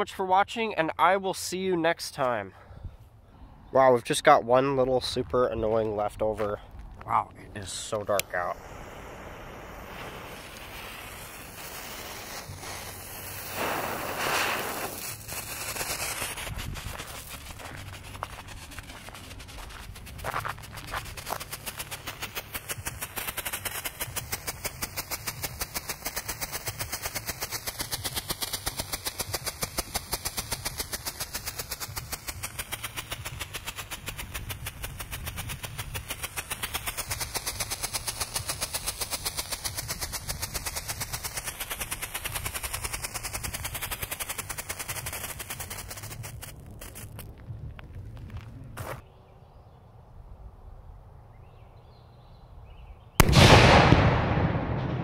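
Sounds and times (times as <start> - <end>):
strobe firework popping: 5.0 - 48.2, 53.2 - 55.0.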